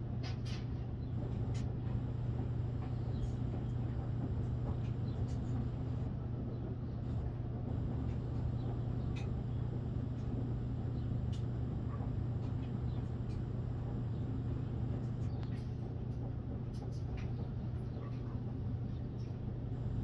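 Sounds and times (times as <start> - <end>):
low mechanical hum: 0.0 - 20.0
faint clicks and taps: 0.2 - 20.0.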